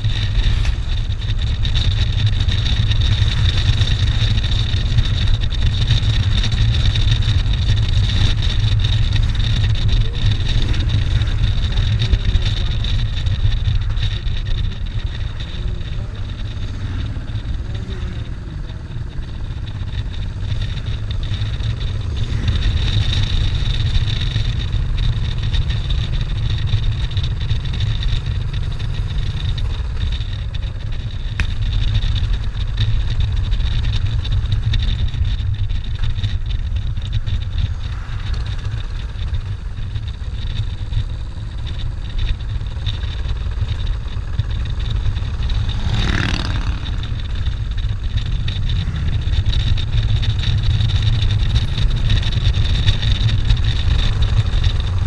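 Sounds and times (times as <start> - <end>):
motorcycle engine running: 0.0 - 55.0
wind rumble on microphone: 0.0 - 55.0.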